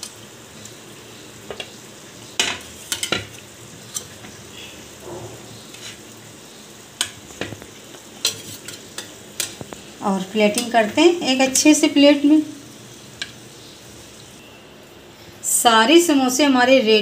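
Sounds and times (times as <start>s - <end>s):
faint hiss: 0.0s - 16.6s.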